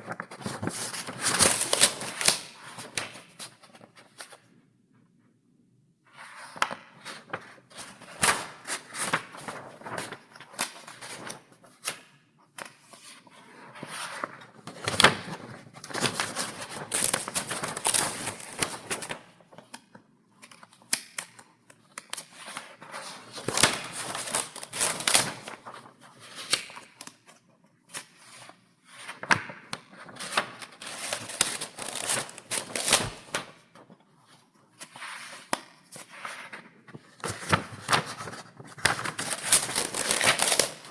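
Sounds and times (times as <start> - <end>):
paper pages turning: 0.0 - 4.3, 6.3 - 11.5, 13.8 - 19.8, 22.0 - 27.2, 28.0 - 33.9, 34.8 - 40.9.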